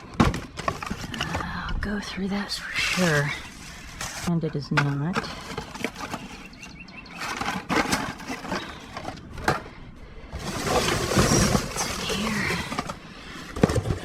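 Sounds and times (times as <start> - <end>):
rustling of bags and debris: 0.0 - 14.0.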